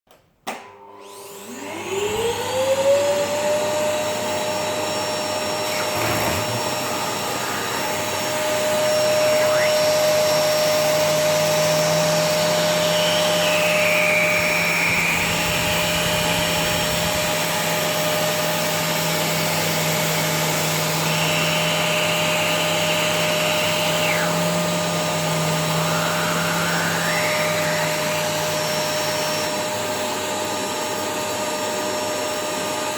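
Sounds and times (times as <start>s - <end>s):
vacuum cleaner running: 0.5s - 32.9s
fan whine shifting pitch: 1.6s - 32.0s.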